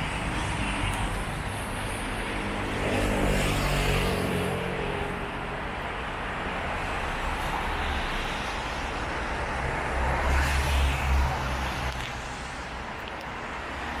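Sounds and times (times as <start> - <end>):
traffic: 0.0 - 14.0.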